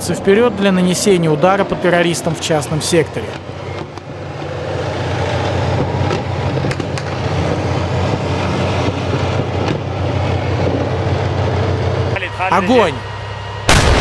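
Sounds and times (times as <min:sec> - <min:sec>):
tank engine rumbling: 0:00.0 - 0:14.0.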